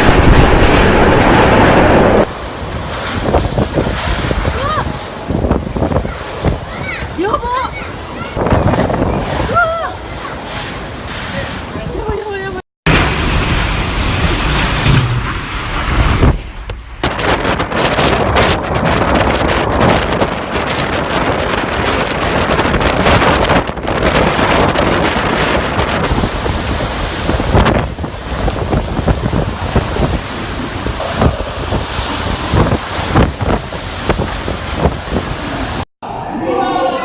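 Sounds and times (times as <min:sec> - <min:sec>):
wind thumps on microphone: 0:00.0 - 0:07.3, 0:08.2 - 0:12.3, 0:12.9 - 0:35.9
storm wind gusting: 0:00.0 - 0:37.0.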